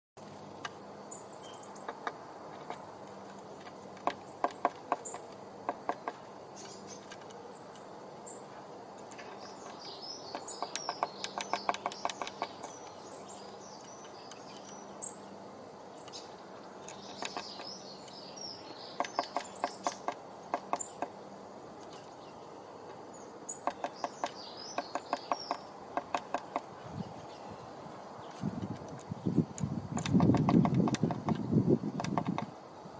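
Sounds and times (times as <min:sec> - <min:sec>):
birds sharp ticking: 0:00.2 - 0:32.6
songbirds chirping: 0:00.2 - 0:32.9.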